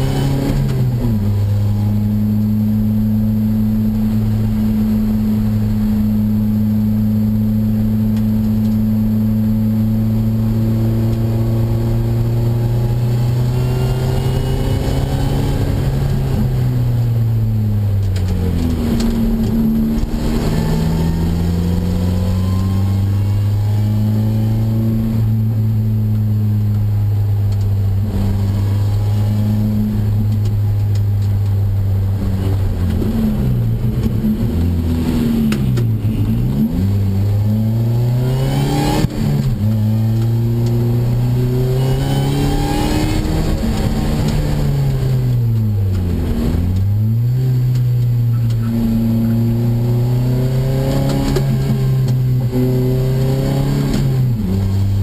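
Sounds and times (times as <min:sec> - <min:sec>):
car engine at speed: 0:00.0 - 0:55.0.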